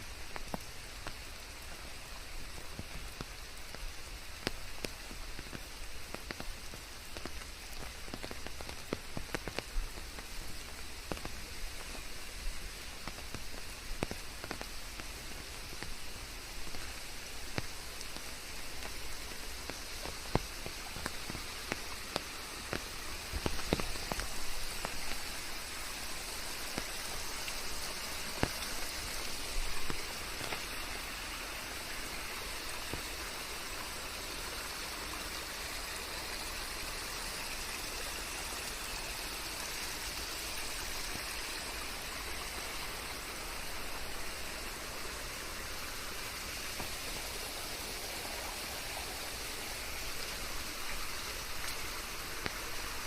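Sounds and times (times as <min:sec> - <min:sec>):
rain hissing: 0:00.0 - 0:53.0.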